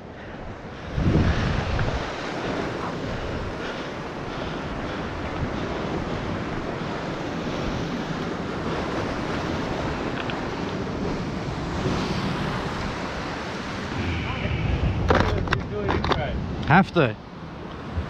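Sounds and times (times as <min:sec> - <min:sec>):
surf washing on rocks: 0:00.0 - 0:18.0
wind buffeting microphone: 0:00.0 - 0:18.0.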